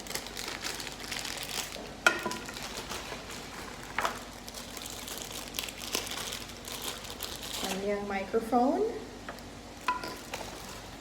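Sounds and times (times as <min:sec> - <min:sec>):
plastic packaging rustling: 0:00.0 - 0:08.0, 0:09.8 - 0:11.0.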